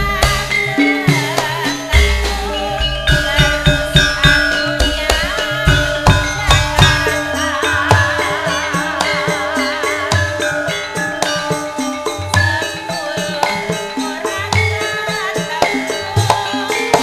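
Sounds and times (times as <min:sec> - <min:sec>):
ringing metallophone and gong: 0:00.0 - 0:17.0
wavering melodic line: 0:00.0 - 0:17.0.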